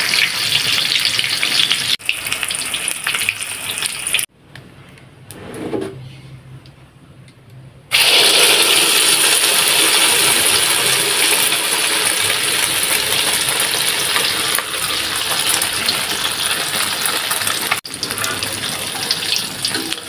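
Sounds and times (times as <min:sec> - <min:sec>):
egg sizzling in hot oil: 0:00.0 - 0:04.3, 0:07.9 - 0:20.0.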